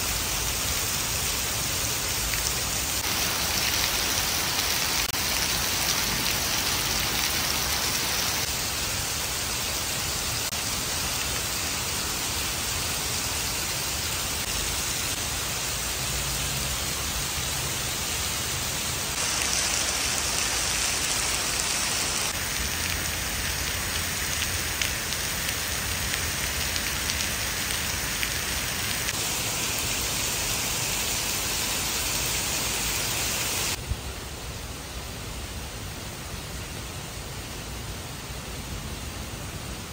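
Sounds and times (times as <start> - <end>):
rain falling on tiles and trees: 0.0 - 39.9.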